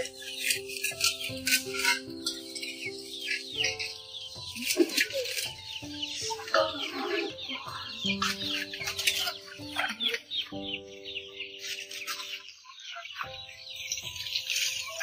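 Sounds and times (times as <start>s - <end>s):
birds chirping: 0.0s - 15.0s
chickens clucking: 0.0s - 15.0s
soft background music: 0.0s - 15.0s.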